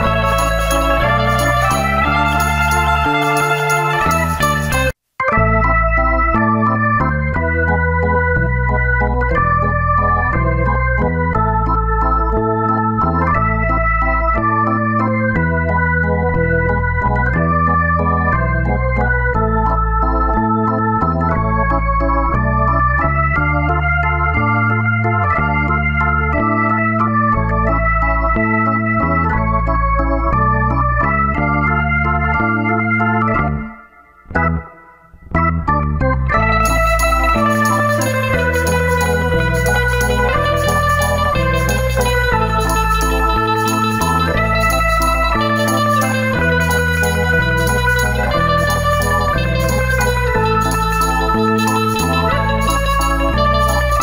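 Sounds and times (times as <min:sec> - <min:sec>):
electronic organ music: 0:00.0 - 0:54.0.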